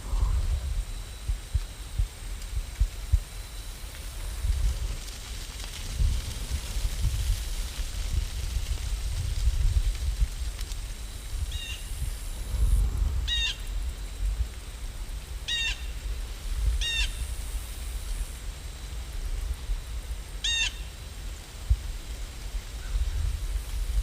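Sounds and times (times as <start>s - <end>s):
steady low rumble: 0.0s - 20.4s.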